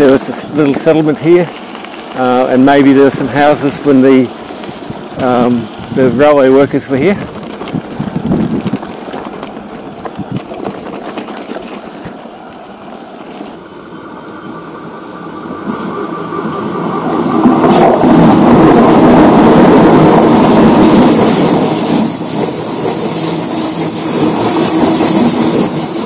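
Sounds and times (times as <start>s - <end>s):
passenger train passing: 0.0s - 26.0s
train wheel noise: 0.0s - 26.0s.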